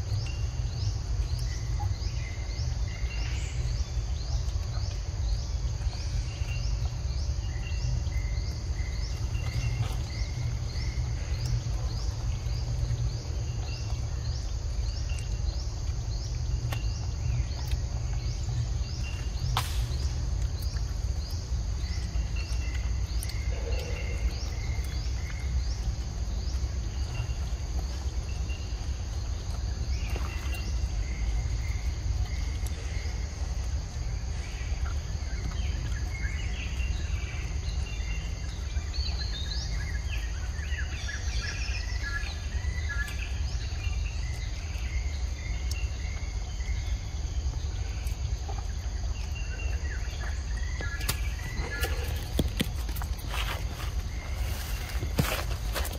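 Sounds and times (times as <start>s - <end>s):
birds chirping: 0.0s - 55.9s
insects buzzing: 0.0s - 55.9s.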